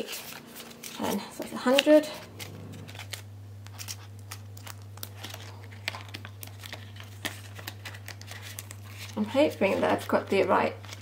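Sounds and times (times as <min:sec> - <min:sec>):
banknotes crinkling and rustling: 0:00.0 - 0:11.0
steady low hum: 0:00.1 - 0:11.0.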